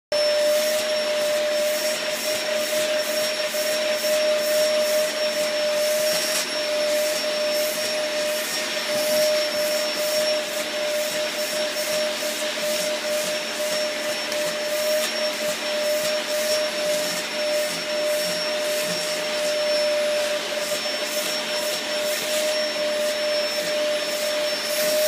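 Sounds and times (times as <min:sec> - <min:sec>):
vacuum cleaner whining: 0:00.1 - 0:25.0.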